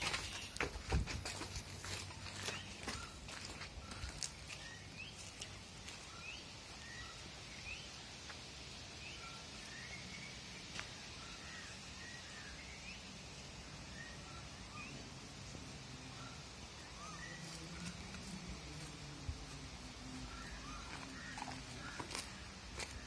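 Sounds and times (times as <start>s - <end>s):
birds chirping: 0.0s - 23.0s
faint steady hiss: 0.0s - 23.0s.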